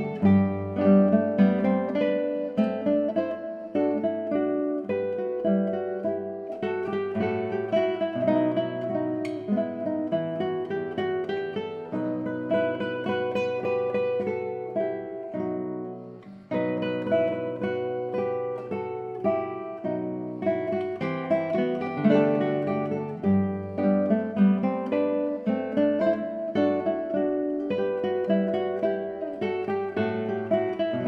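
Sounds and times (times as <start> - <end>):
acoustic guitar plucked notes: 0.0 - 31.0.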